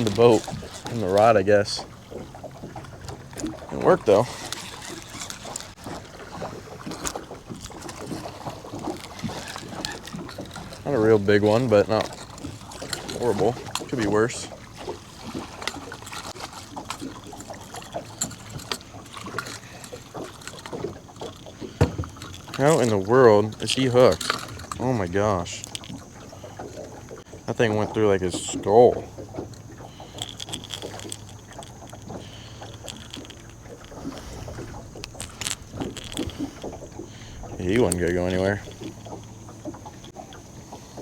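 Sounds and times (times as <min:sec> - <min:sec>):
boat motor humming: 0:00.0 - 0:41.0
fish and tackle knocking: 0:00.0 - 0:41.0.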